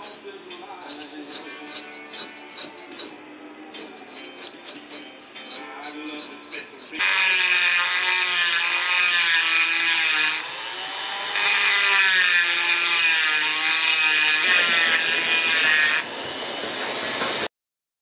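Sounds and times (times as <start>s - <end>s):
rotary tool grinding metal: 0.0s - 17.5s.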